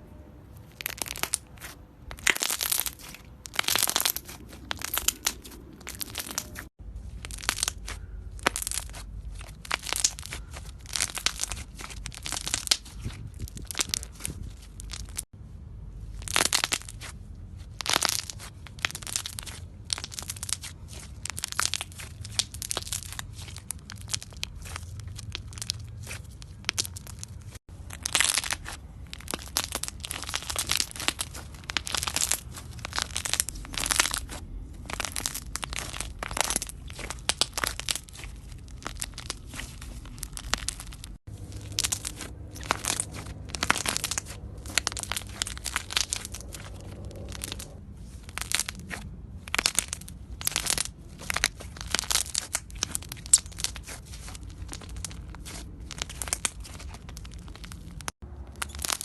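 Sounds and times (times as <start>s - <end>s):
brittle crunching and crackling: 0.7s - 15.3s, 16.2s - 59.0s.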